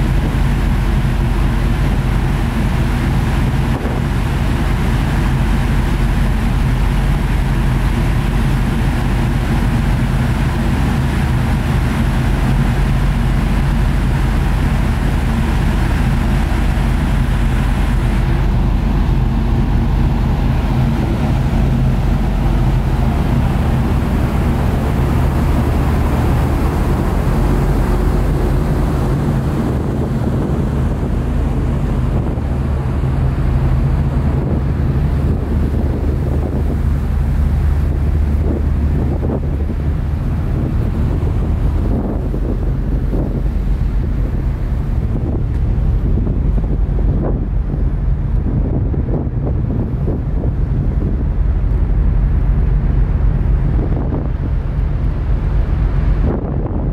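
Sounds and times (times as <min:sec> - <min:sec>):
ferry engines droning: 0:00.0 - 0:56.9
wind and water rushing: 0:00.0 - 0:56.9.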